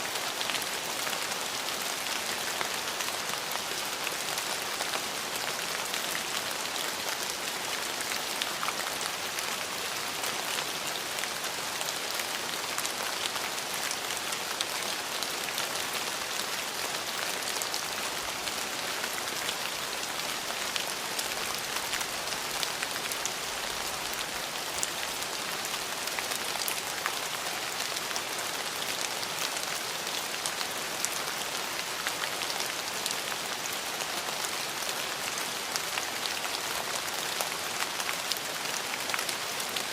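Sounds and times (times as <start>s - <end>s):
rain drops ticking on hard surface: 0.1s - 39.9s.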